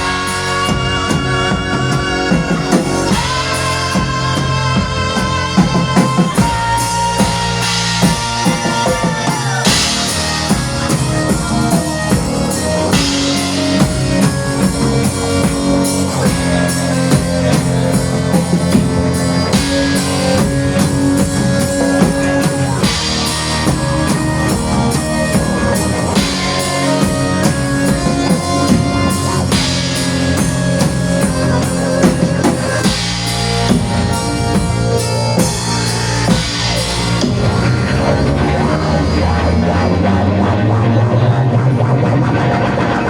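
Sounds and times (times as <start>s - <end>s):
live folk-rock band playing: 0.0s - 43.0s.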